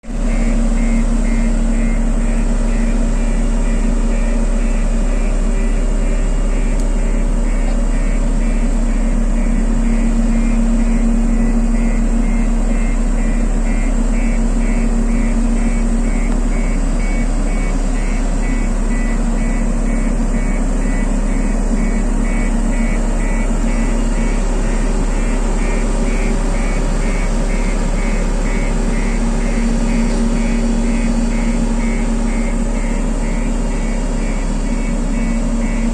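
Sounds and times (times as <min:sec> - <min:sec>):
road roller diesel engine running: 0:00.0 - 0:35.9.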